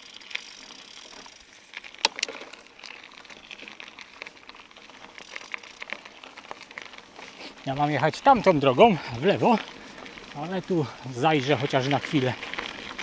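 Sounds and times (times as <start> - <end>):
bicycle rattling: 0.0 - 13.0
tyres crunching on gravel: 0.0 - 13.0.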